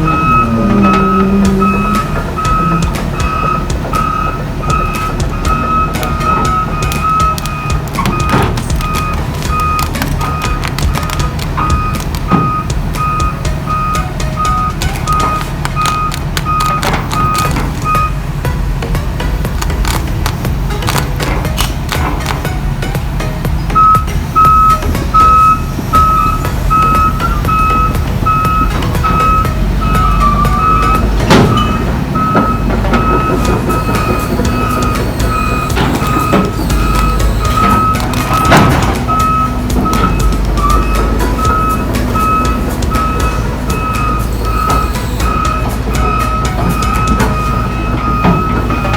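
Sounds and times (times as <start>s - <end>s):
travel alarm beeping: 0.0s - 19.0s, 22.6s - 48.9s
diesel engine running: 0.0s - 48.9s
metallic knocks and clanks: 0.0s - 48.9s.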